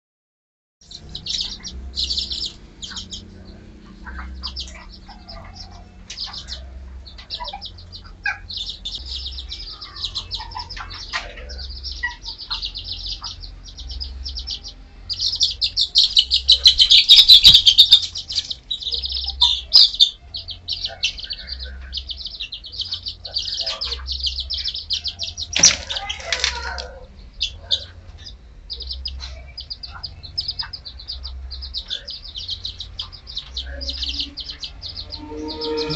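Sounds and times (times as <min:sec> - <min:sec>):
chicks peeping: 0:00.8 - 0:35.9.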